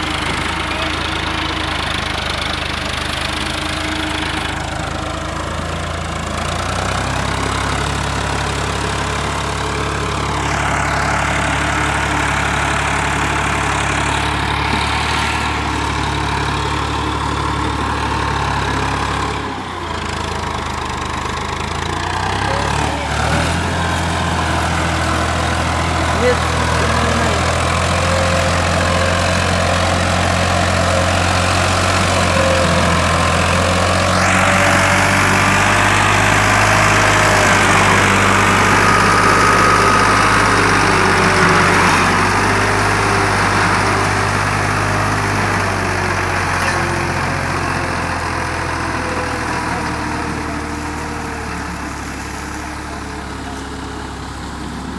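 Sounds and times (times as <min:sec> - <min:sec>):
tractor diesel engine labouring: 0:00.0 - 0:54.9.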